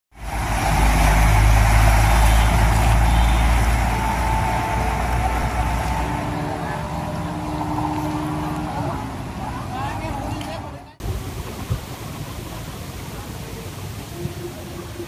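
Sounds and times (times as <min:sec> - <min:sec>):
rushing water: 0:00.1 - 0:15.0
vehicle engine rumbling: 0:00.1 - 0:15.0.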